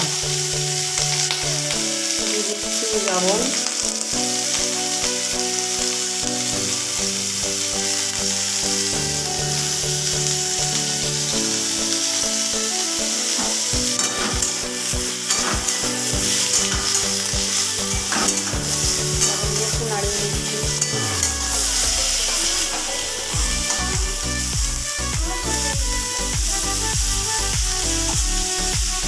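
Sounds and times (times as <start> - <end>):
gourds sizzling in hot oil: 0.0 - 29.0
soft background music: 0.0 - 29.0.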